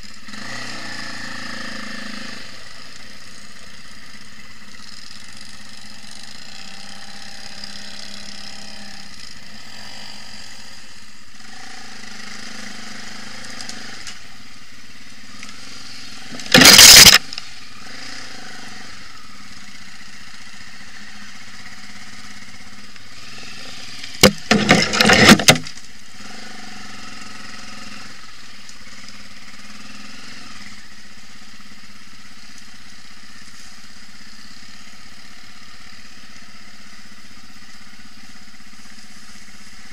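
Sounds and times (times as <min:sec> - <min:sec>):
quad engines running: 0:00.0 - 0:39.9.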